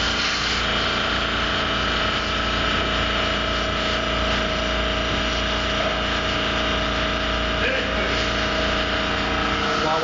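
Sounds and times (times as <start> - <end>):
machine hum with whining tone: 0.0 - 10.0.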